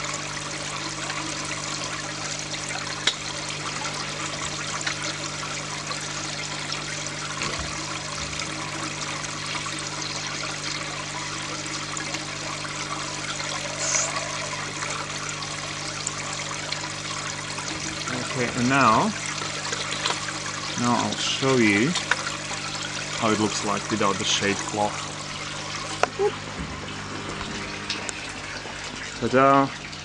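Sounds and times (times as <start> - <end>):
water splashing into tank: 0.0 - 30.0.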